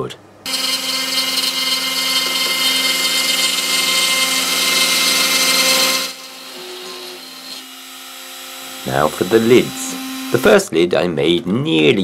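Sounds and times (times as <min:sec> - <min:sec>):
cutter hissing through wood: 0:00.5 - 0:10.6.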